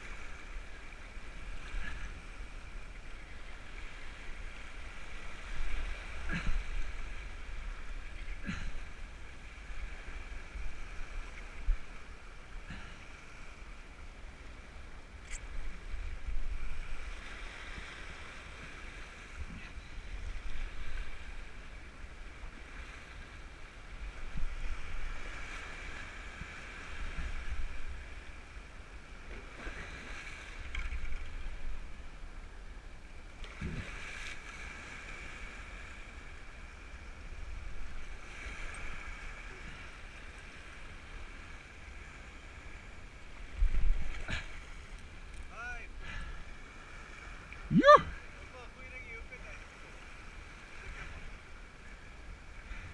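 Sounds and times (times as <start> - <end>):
surf washing around legs: 0.0 - 31.9, 33.4 - 52.9.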